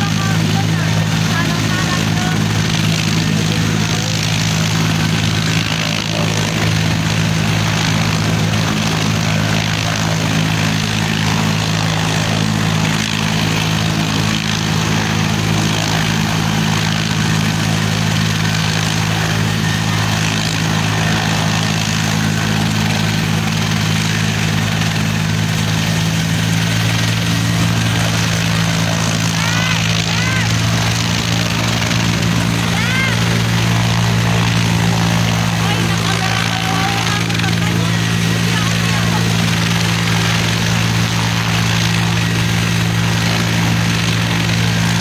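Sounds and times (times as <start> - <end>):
helicopter engine and rotor drone: 0.0 - 45.0.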